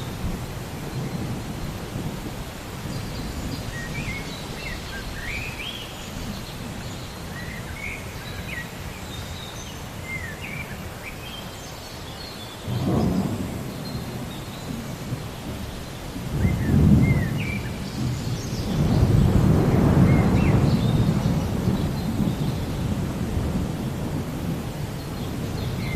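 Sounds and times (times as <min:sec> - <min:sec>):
low thunder rumble: 0:00.0 - 0:07.7, 0:12.7 - 0:25.9
birds chirping: 0:00.0 - 0:25.9.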